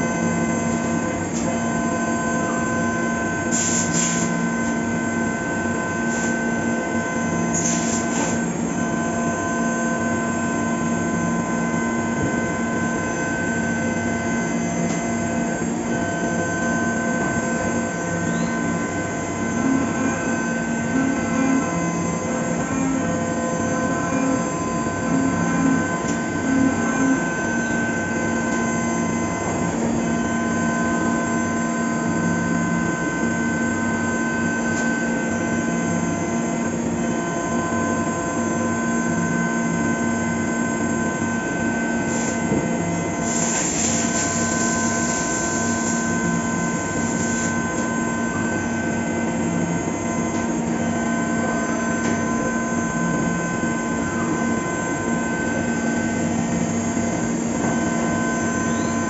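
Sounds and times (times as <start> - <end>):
milling spindle whine: 0.0 - 59.0.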